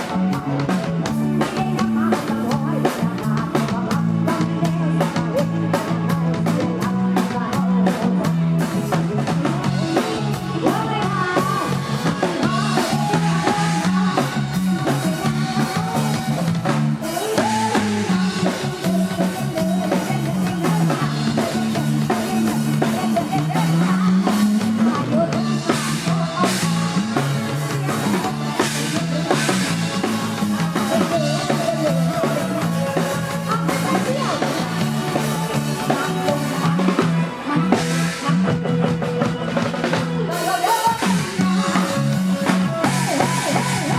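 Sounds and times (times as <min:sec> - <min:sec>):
bass: 0:00.0 - 0:43.9
drum kit: 0:00.0 - 0:43.9
electric guitar: 0:00.0 - 0:43.9
live band music: 0:00.0 - 0:43.9.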